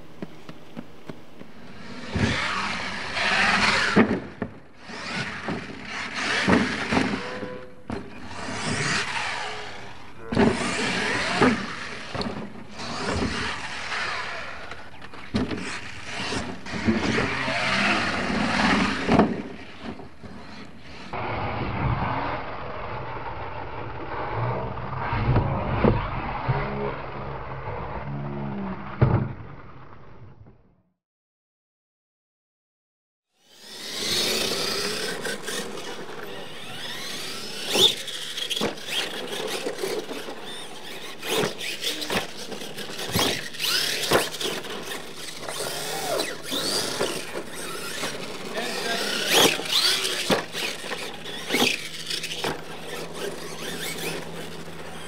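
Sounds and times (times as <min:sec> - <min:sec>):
radio-controlled truck motor revving: 0:00.0 - 0:27.2, 0:33.4 - 0:55.0.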